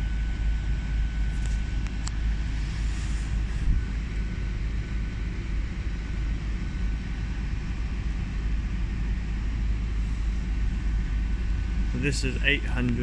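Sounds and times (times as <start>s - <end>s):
faint whine: 0.0s - 13.0s
train diesel engine rumbling: 0.0s - 13.0s.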